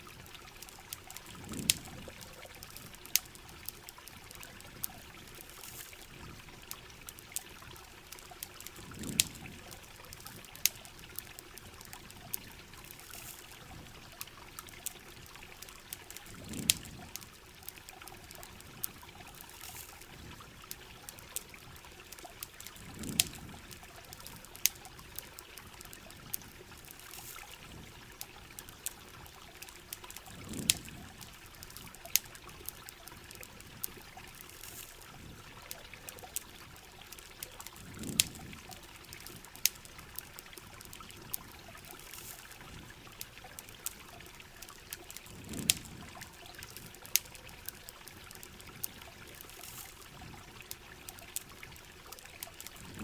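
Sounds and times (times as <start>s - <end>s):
campfire crackling: 0.0s - 53.0s
river water running: 0.0s - 53.0s.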